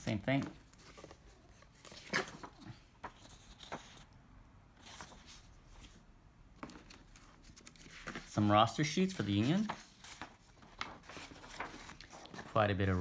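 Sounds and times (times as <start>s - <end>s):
paper rustling: 0.0s - 4.1s, 4.8s - 6.0s, 6.6s - 13.0s.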